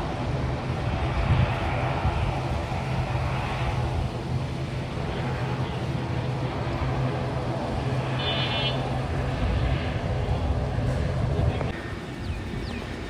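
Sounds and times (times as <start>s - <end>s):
engine rumble with low hum: 0.0s - 13.0s.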